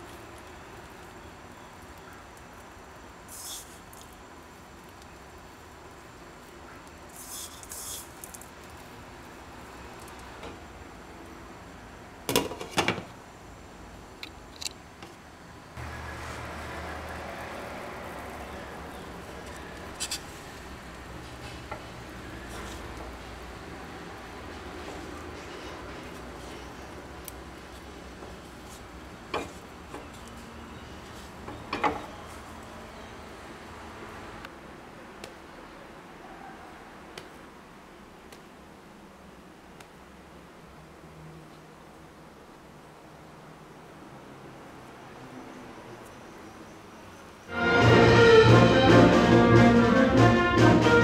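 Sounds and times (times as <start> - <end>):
faint background hiss: 0.0 - 47.8.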